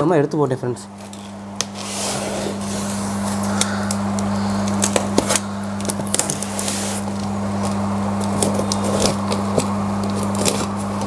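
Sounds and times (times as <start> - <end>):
low hum: 0.8 - 11.0
packing tape peeling: 1.0 - 11.0.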